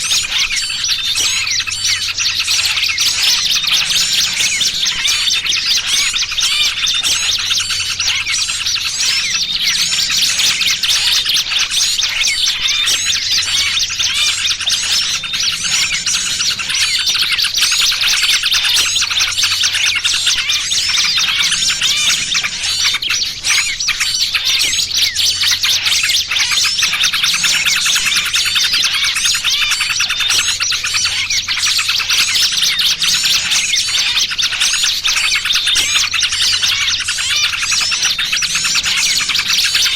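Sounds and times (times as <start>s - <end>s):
bird alarm calls: 0.0s - 39.9s
songbirds chirping: 0.0s - 39.9s.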